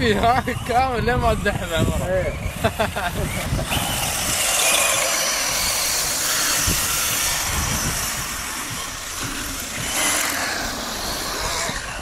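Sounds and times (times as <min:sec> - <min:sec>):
low rumbles: 0:00.0 - 0:12.0
rc car motor whining: 0:00.0 - 0:12.0
tyres spraying sand: 0:00.0 - 0:12.0.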